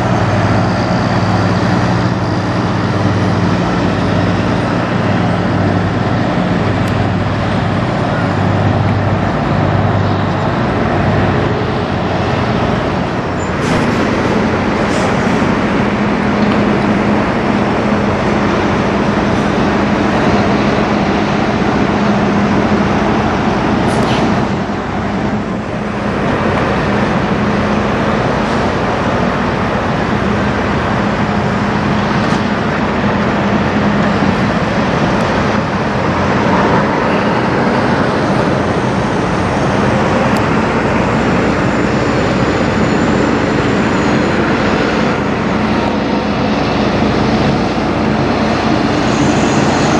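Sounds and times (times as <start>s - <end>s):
truck diesel engines droning: 0.0s - 49.9s.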